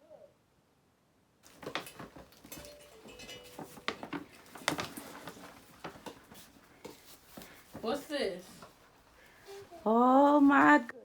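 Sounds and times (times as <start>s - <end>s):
paper crinkling and rustling: 1.4s - 10.9s.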